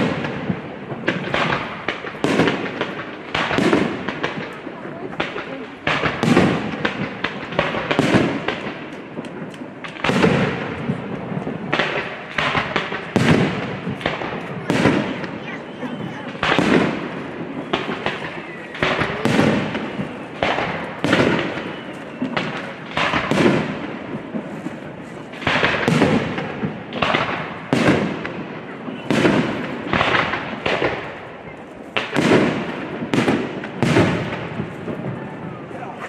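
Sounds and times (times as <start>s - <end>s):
aerial fireworks exploding: 0.0s - 36.0s
echoing crackling tail: 0.0s - 36.0s.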